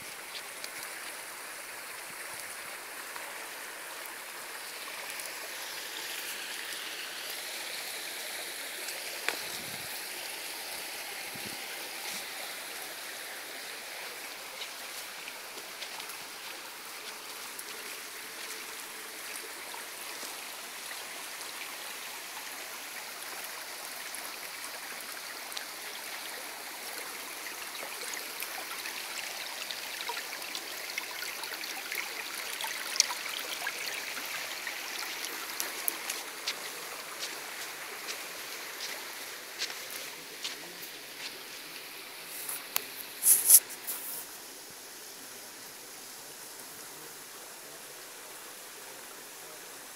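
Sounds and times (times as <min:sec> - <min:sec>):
stream water running: 0:00.0 - 0:49.9.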